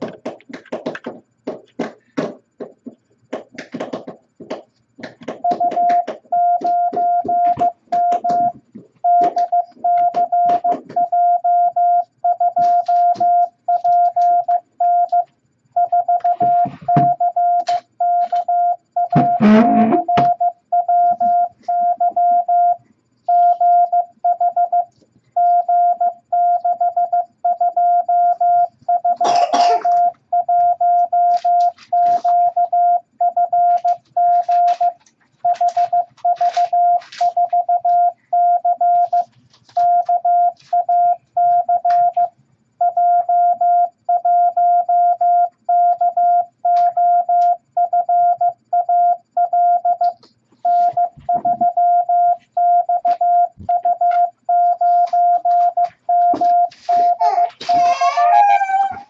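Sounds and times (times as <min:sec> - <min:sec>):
morse code beeps: 0:05.4 - 0:29.2, 0:29.8 - 0:57.2.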